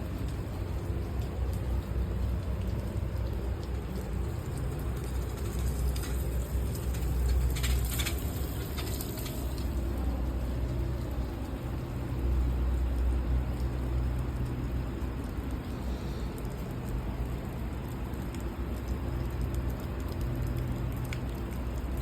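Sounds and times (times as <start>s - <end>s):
rain: 0.0s - 22.0s
traffic rumble: 0.0s - 22.0s.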